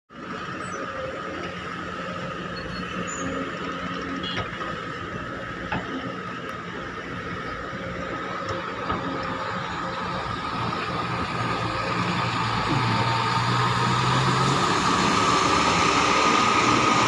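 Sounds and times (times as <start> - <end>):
excavator engine and hydraulics: 0.1 - 17.0.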